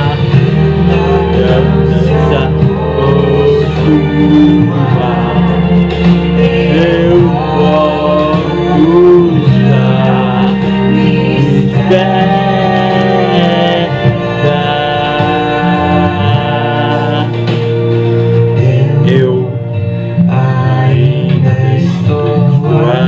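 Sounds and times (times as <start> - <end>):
bass line: 0.0 - 23.0
held instrumental chords: 0.0 - 23.0
person singing: 0.0 - 23.0.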